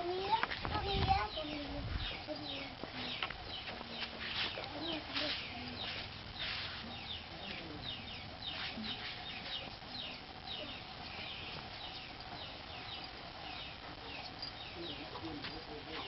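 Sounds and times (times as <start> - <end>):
low background hum: 0.0 - 16.0
birds chirping rapidly: 0.1 - 16.0.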